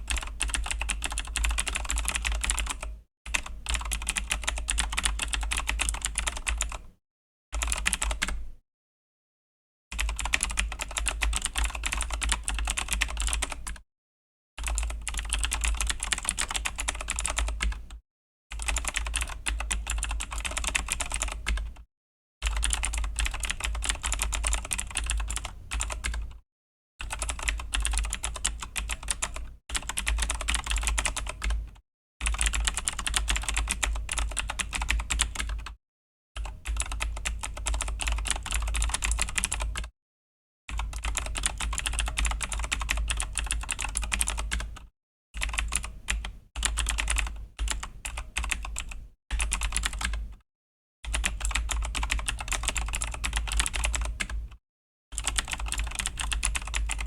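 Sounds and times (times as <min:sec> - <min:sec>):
clicky mechanical keyboard typing: 0:00.1 - 0:06.9, 0:07.6 - 0:08.5, 0:10.0 - 0:13.8, 0:14.6 - 0:17.9, 0:18.6 - 0:21.8, 0:22.4 - 0:26.4, 0:27.0 - 0:35.8, 0:36.4 - 0:39.9, 0:40.7 - 0:50.4, 0:51.1 - 0:54.6, 0:55.2 - 0:57.0.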